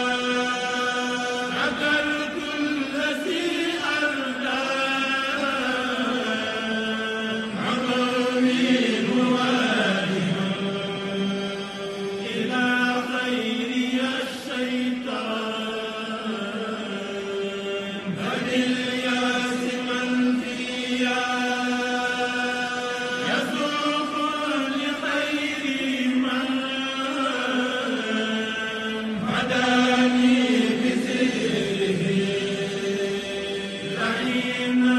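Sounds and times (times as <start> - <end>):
person chanting in long notes: 0.0 - 34.9.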